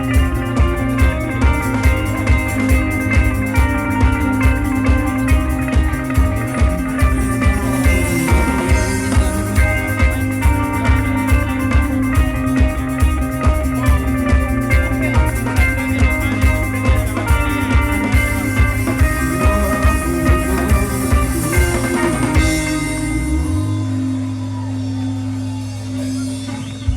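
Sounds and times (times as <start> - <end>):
drum kit beat: 0.0 - 23.4
bass guitar: 0.0 - 26.9
electric guitar: 0.0 - 26.9.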